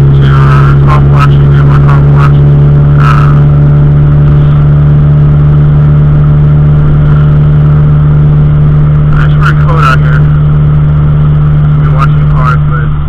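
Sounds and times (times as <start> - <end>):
car engine drone from inside: 0.0 - 13.0.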